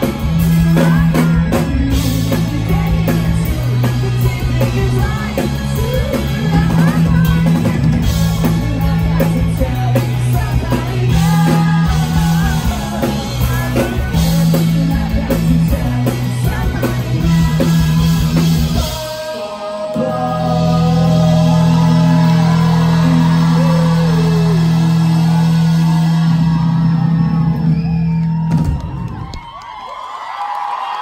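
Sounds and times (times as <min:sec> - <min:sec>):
person singing: 0:00.0 - 0:26.5
electric bass: 0:00.0 - 0:29.3
drum kit: 0:00.0 - 0:29.4
electric guitar: 0:00.0 - 0:29.4.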